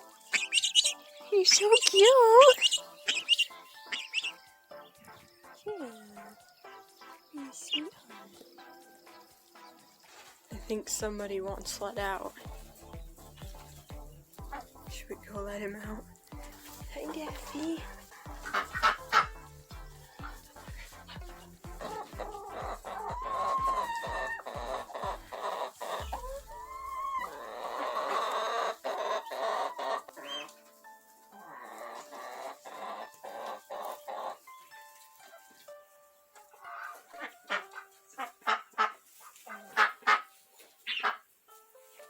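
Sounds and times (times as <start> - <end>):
chickens clucking: 0.0 - 41.4
background music: 0.0 - 42.0.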